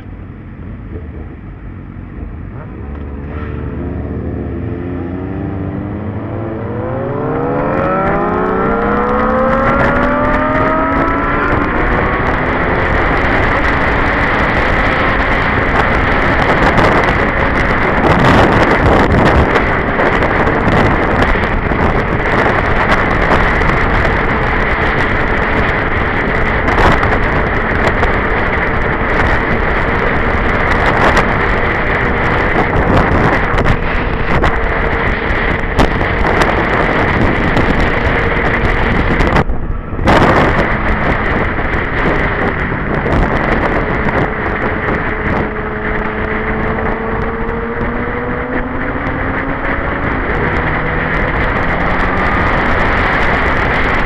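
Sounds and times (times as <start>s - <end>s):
motorcycle engine accelerating: 0.0s - 54.0s
wind rushing on microphone: 0.0s - 54.0s.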